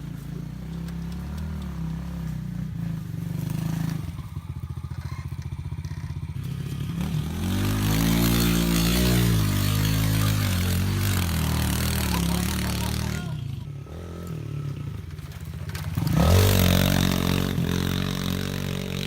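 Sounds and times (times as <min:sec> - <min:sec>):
pit bike engine idling and revving: 0:00.0 - 0:19.0.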